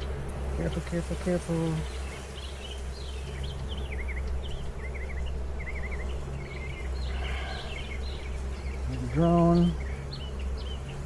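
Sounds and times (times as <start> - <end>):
songbird chirping: 0.0 - 11.0
steady low hum: 0.0 - 11.0.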